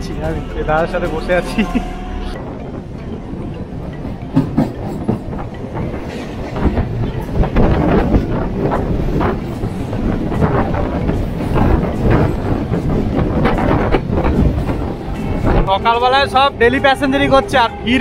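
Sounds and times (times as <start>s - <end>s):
trains passing wheels clattering: 0.0s - 18.0s.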